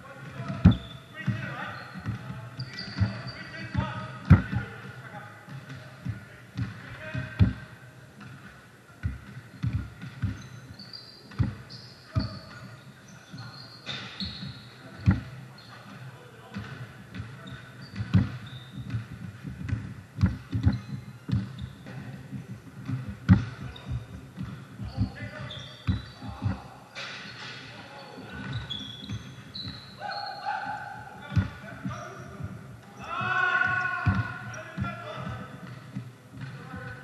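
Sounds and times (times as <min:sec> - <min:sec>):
sneakers squeaking: 0:00.0 - 0:37.0
basketball bouncing: 0:00.2 - 0:04.7, 0:05.5 - 0:12.7, 0:13.9 - 0:15.4, 0:16.5 - 0:26.8, 0:30.6 - 0:37.0.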